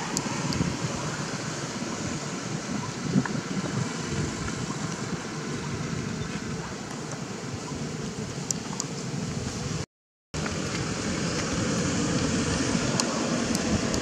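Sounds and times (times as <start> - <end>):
wind buffeting microphone: 0.0 - 9.8, 10.4 - 14.0.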